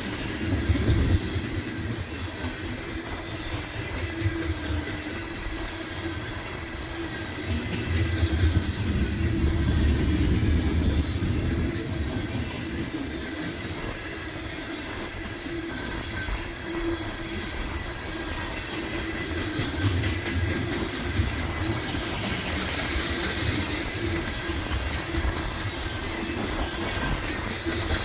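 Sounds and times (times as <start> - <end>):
train wheels clattering: 0.0 - 28.0
wind buffeting microphone: 0.0 - 28.0.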